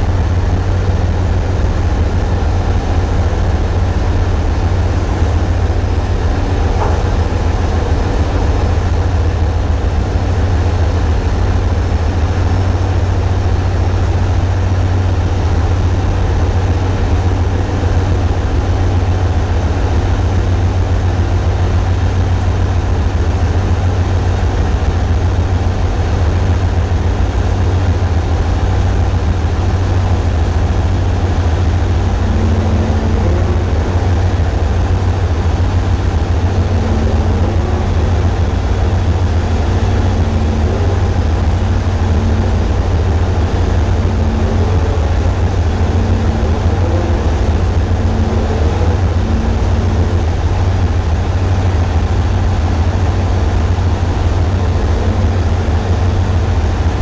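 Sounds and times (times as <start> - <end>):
diesel engine low rumble: 0.0 - 57.0.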